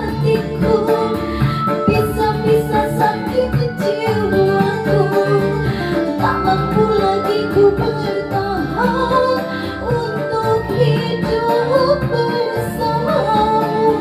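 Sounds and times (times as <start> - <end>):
woman singing over backing track: 0.0 - 14.0.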